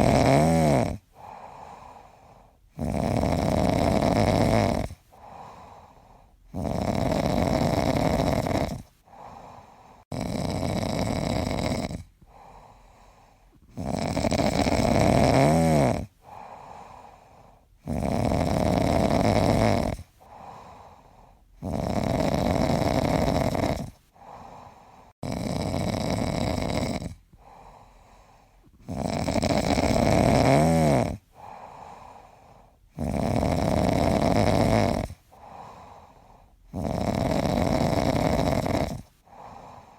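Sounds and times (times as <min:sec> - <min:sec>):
rhythmic snoring: 0:00.0 - 0:39.9.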